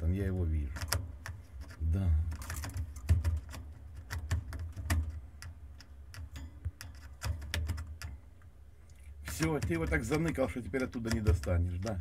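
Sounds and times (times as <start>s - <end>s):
bird beak tapping on cage bars: 0.8s - 12.0s.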